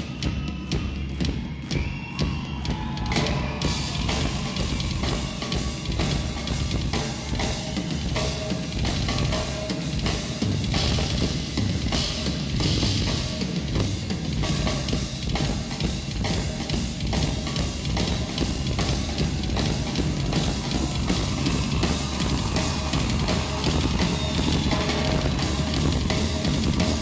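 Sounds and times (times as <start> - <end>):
drum kit solo: 0.0 - 27.0.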